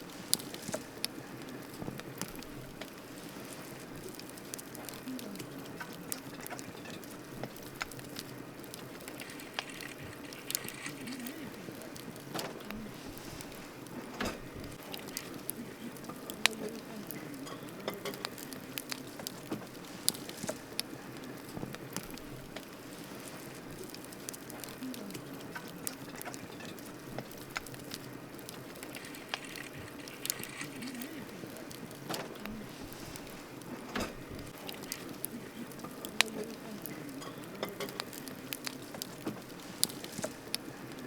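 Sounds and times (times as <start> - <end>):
campfire crackling and popping: 0.0 - 41.0
fire hiss: 0.0 - 41.0.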